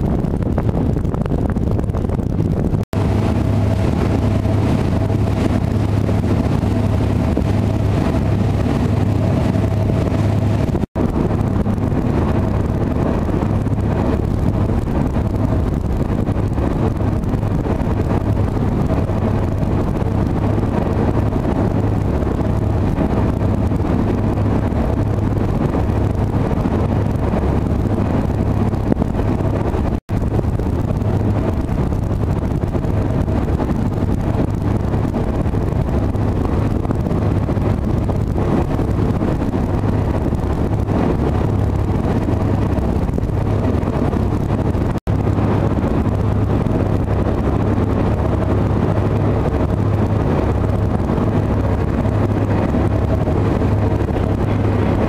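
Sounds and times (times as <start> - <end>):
wind buffeting the microphone: 0.0 - 55.0
ferry engines droning: 3.0 - 29.6, 30.2 - 55.0.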